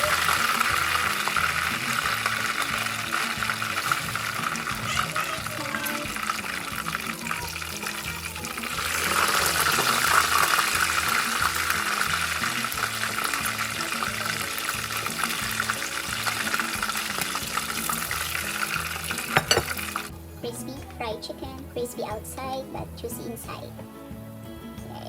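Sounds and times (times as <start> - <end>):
chicken sizzling in hot oil: 0.0 - 24.3
background music with beat: 0.0 - 25.0.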